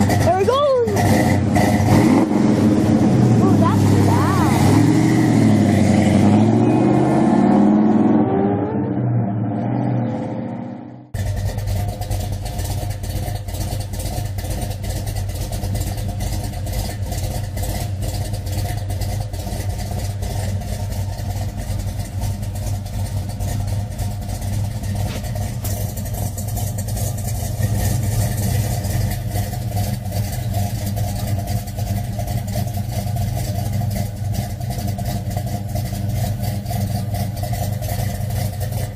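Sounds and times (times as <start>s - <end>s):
engine idling: 0.0s - 6.6s, 11.1s - 38.9s
car engine revving: 0.0s - 38.9s.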